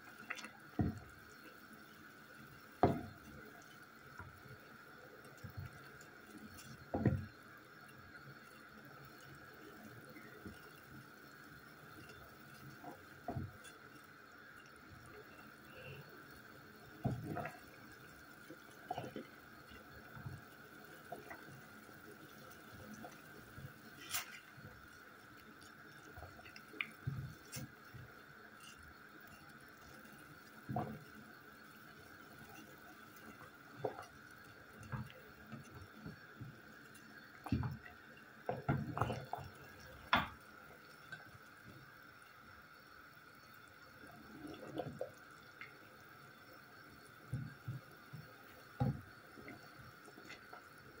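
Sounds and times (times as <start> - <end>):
faint steady hiss: 0.0 - 51.0
water boiling and bubbling: 0.0 - 51.0.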